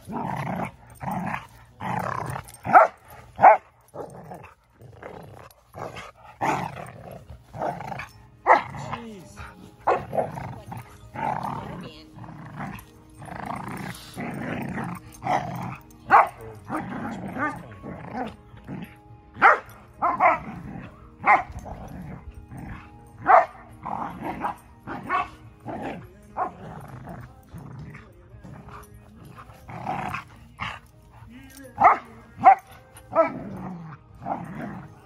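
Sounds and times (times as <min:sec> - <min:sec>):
dog play growling: 0:00.0 - 0:35.0.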